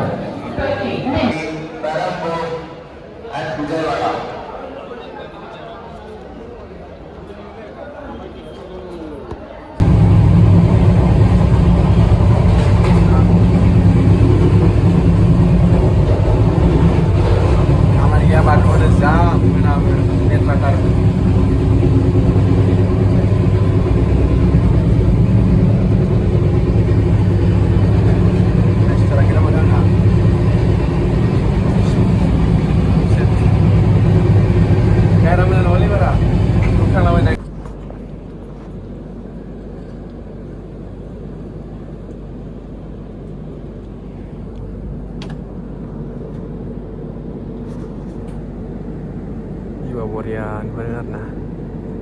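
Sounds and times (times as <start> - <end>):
constant hum: 0.0 - 4.4, 9.8 - 52.0
passenger train rumble: 0.0 - 52.0.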